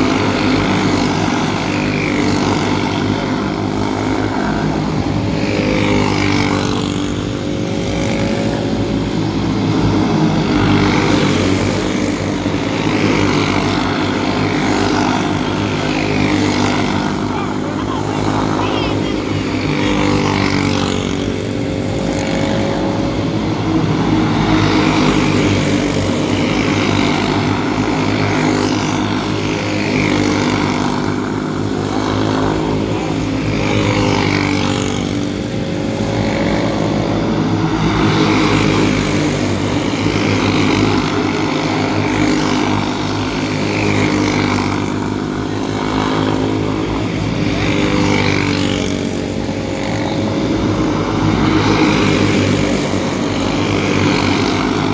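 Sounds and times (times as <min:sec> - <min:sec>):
racing karts passing: 0:00.0 - 0:54.9.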